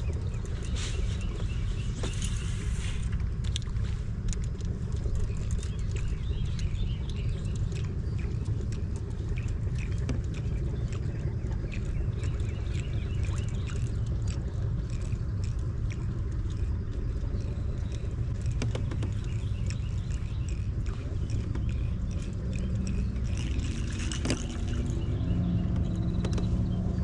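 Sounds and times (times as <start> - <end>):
small birds chirping: 0.0 - 3.2, 3.8 - 27.0
wind buffeting microphone: 0.0 - 27.0.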